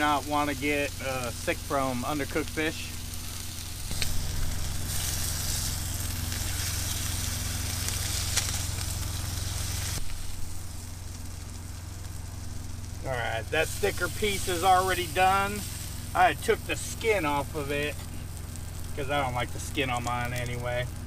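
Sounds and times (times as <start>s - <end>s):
fish sizzling in a frying pan: 0.0s - 21.0s
steady low hum: 0.0s - 21.0s.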